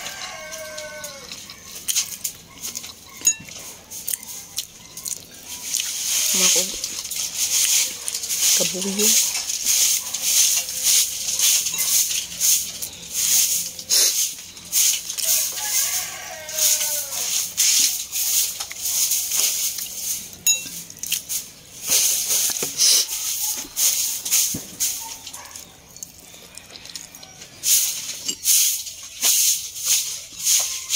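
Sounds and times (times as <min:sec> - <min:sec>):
chewing crunchy food: 0:00.0 - 0:29.1.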